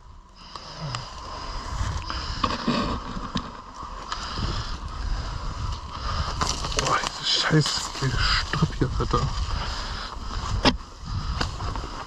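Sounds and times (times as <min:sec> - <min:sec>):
branches scraping against clothing: 0:00.5 - 0:12.0.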